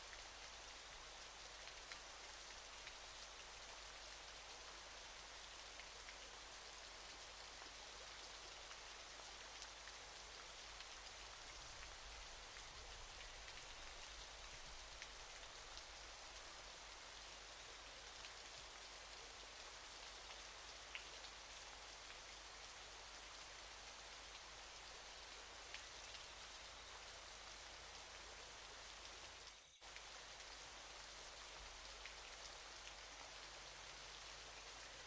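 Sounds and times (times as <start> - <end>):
waterfall hiss: 0.0 - 35.0.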